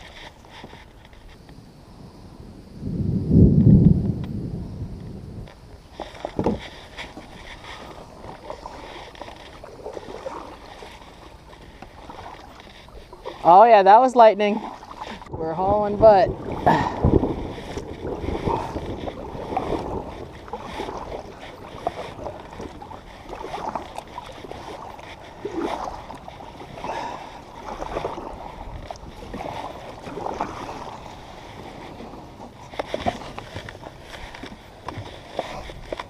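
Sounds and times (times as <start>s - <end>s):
paddle strokes splashing water: 0.0s - 1.5s, 5.4s - 36.0s.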